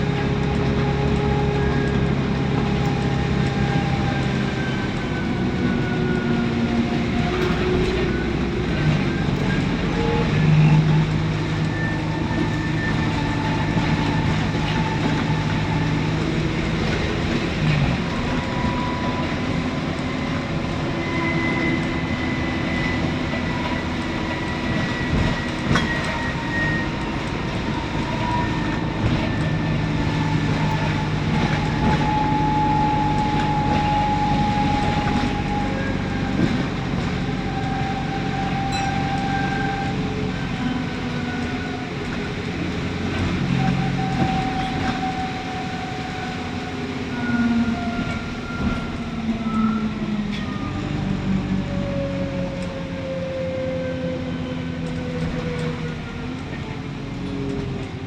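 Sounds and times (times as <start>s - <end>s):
bus engine drone: 0.0s - 58.0s
transmission whine: 0.0s - 58.0s.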